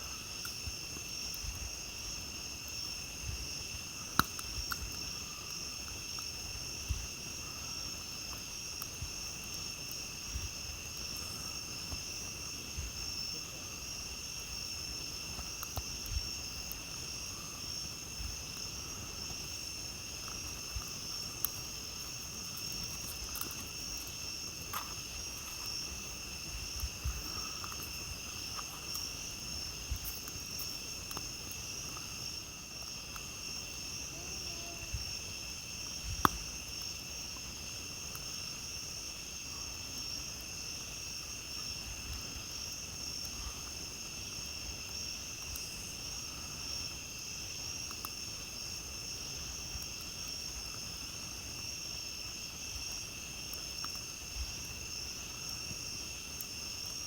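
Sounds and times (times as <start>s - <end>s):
campfire crackling and popping: 0.0s - 57.0s
night insects chirring: 0.0s - 57.0s.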